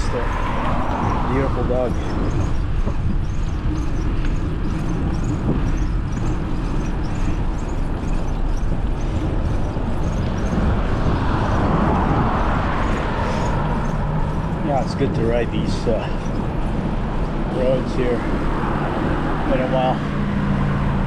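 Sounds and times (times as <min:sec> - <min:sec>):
bicycle road noise: 0:00.0 - 0:21.0
wind buffeting microphone: 0:00.0 - 0:21.0.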